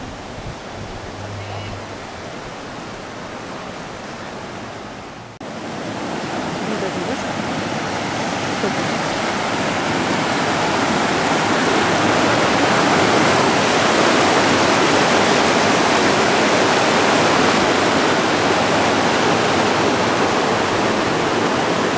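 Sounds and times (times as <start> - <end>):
river rapids rushing over rocks: 0.0 - 21.9.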